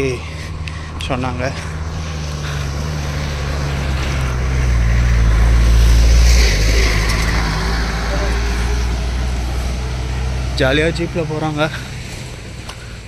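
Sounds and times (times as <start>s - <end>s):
car engine driving past: 0.0s - 12.7s.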